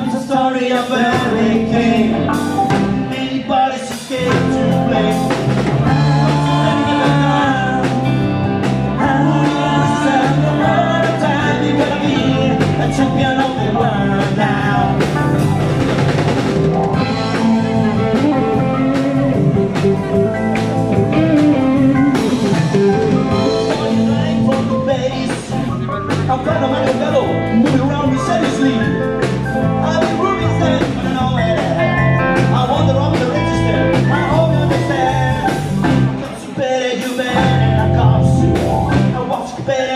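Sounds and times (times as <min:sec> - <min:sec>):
person singing: 0:00.0 - 0:15.5, 0:16.9 - 0:39.9
bass guitar: 0:00.0 - 0:39.9
drum kit: 0:00.0 - 0:39.9
electric guitars: 0:00.0 - 0:39.9.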